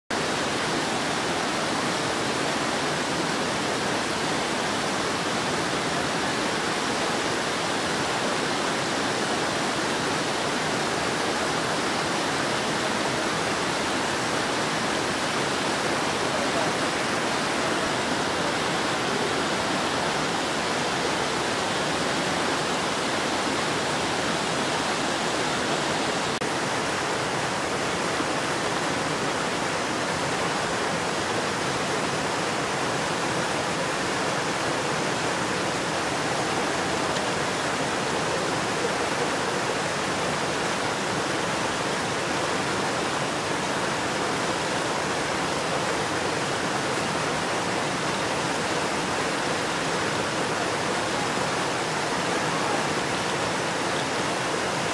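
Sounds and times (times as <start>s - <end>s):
water cascading over boulders: 0.1s - 54.9s.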